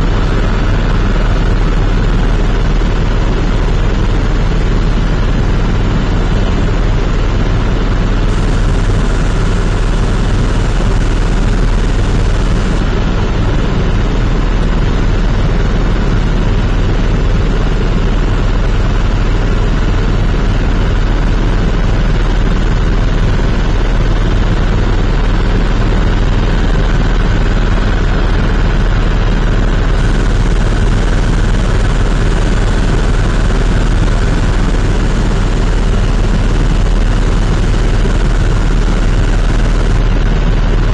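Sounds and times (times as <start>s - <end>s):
helicopter cabin drone: 0.0s - 40.9s.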